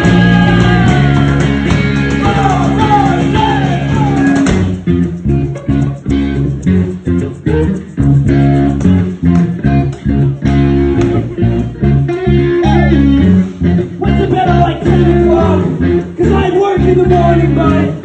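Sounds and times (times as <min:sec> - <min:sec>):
drum kit: 0:00.0 - 0:17.9
bass guitar: 0:00.0 - 0:18.0
electric guitar: 0:00.0 - 0:18.0.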